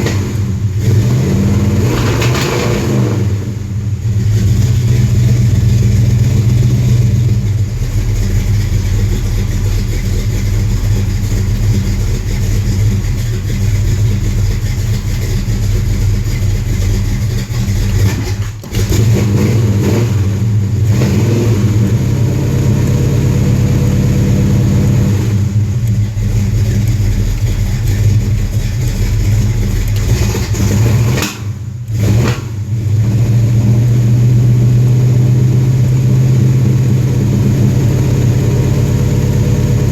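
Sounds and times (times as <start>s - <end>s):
car engine running with throttle: 0.0s - 39.9s.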